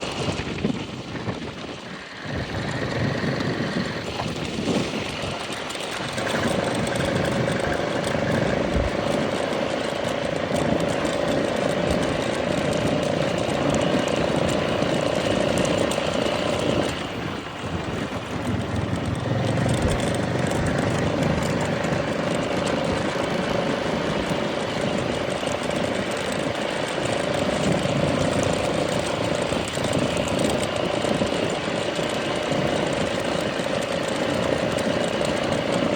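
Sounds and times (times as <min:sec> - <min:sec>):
engine running steadily: 0:00.0 - 0:35.9
noisy rush: 0:00.0 - 0:35.9.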